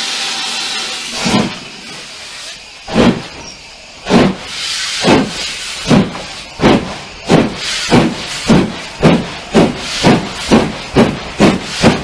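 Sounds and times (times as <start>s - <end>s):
steam hiss: 0.0s - 12.0s
steam locomotive exhaust chuffs: 0.0s - 12.0s.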